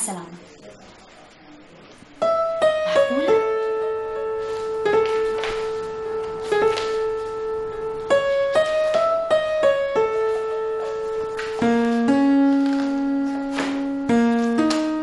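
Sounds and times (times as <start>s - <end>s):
slow piano melody: 2.0s - 15.0s.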